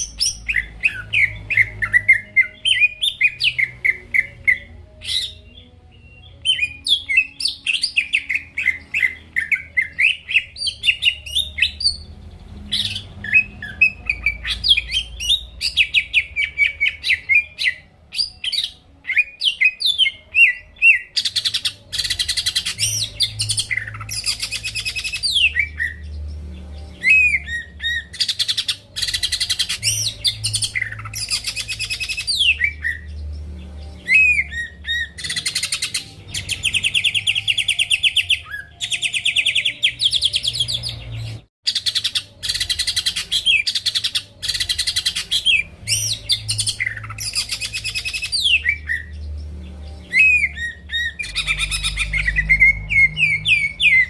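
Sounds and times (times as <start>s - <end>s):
bird song chirps trills and whistles: 0.0s - 54.0s.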